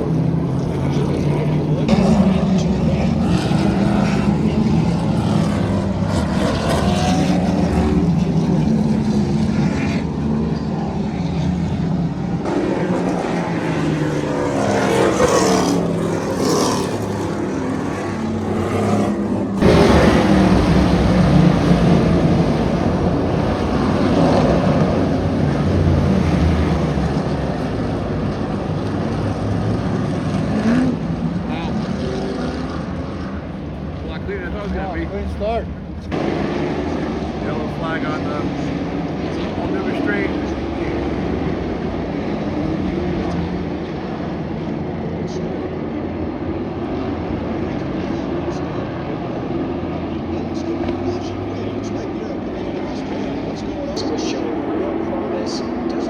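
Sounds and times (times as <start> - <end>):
race cars passing: 0.0 - 56.0.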